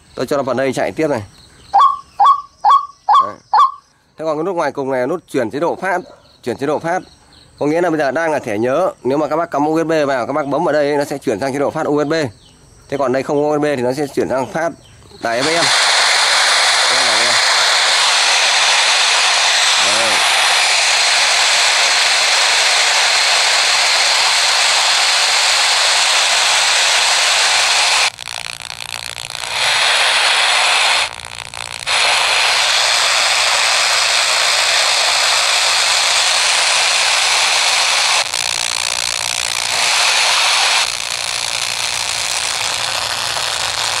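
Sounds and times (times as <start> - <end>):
radio static hiss: 0.0 - 7.0, 13.1 - 44.0.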